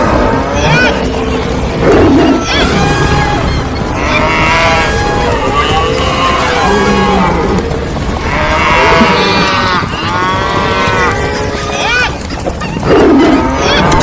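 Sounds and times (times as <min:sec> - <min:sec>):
animal calls and lowing: 0:00.0 - 0:14.0
rumble of running hooves: 0:00.0 - 0:14.0.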